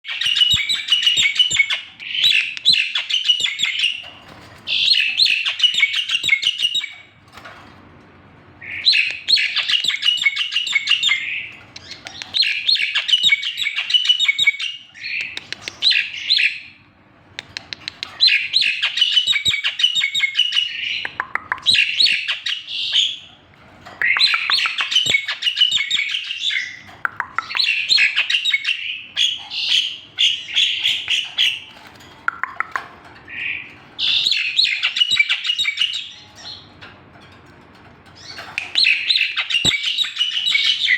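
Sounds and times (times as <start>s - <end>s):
bird singing rapid phrases: 0.0s - 7.2s, 8.6s - 16.8s, 17.4s - 36.8s, 38.1s - 40.9s.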